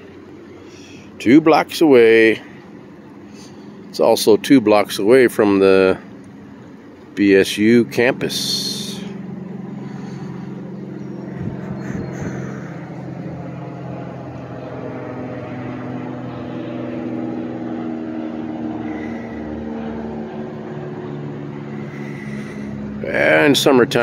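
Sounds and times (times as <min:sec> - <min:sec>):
passing road traffic hum: 0:00.0 - 0:24.0.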